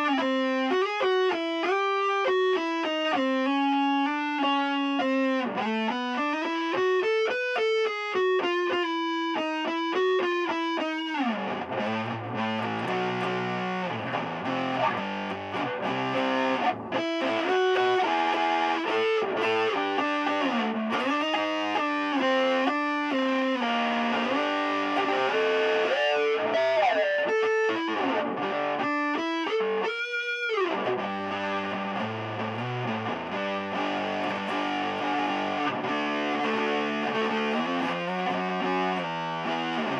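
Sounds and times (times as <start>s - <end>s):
fuzzed electric guitar: 0.0s - 39.9s.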